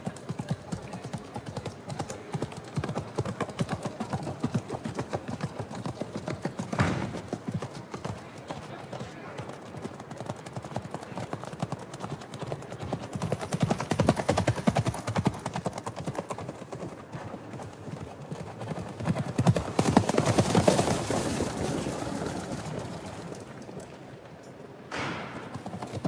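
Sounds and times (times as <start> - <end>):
horse hooves galloping: 0.0 - 26.0.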